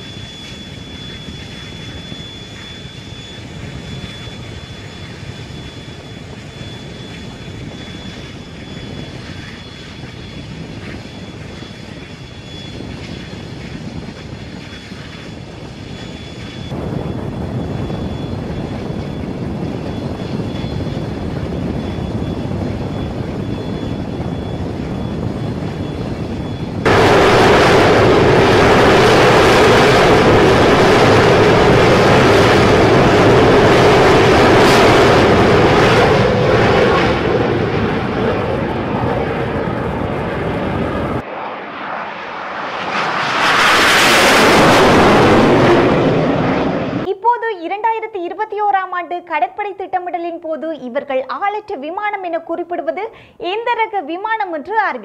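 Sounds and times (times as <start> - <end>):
jet engine roaring: 0.0 - 47.1.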